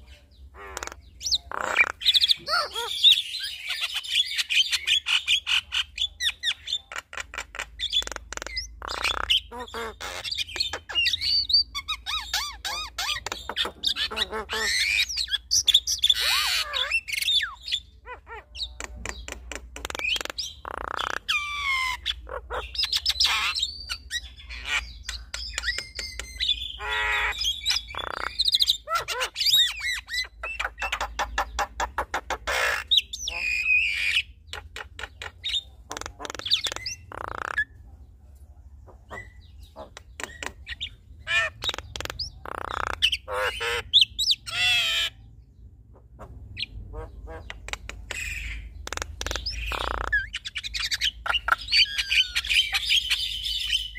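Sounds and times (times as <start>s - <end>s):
birds calling: 0.0s - 53.9s.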